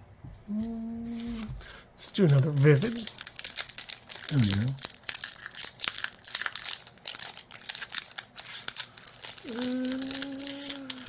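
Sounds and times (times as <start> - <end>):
foil wrapper crinkling: 1.1 - 11.0.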